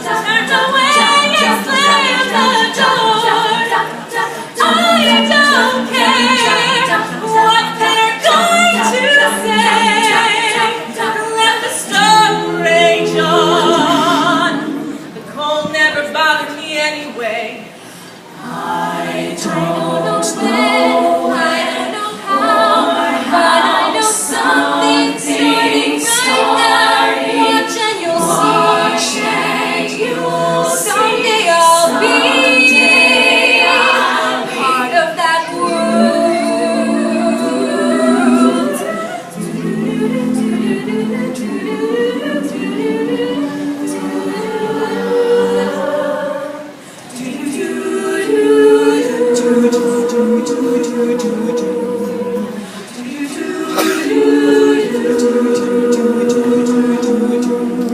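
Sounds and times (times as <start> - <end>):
female a cappella group singing: 0.0 - 57.9.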